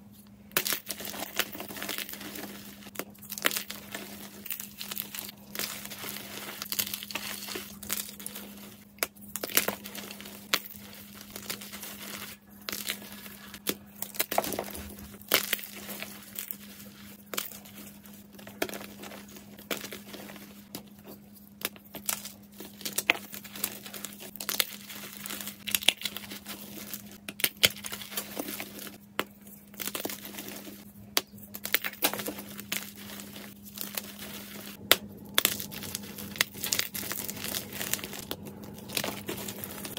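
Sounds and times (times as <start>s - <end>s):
chalk crunching and crumbling: 0.5s - 39.9s.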